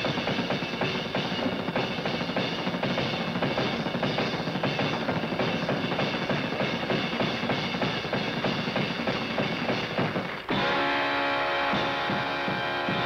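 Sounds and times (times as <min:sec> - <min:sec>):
jazz drum solo: 0:00.0 - 0:10.9, 0:11.6 - 0:13.0.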